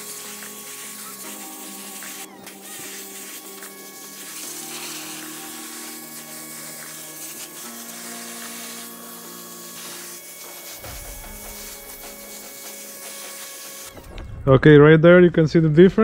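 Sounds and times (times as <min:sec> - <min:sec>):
pressure washer water jet hissing: 0:00.0 - 0:14.1
background music: 0:00.0 - 0:16.0.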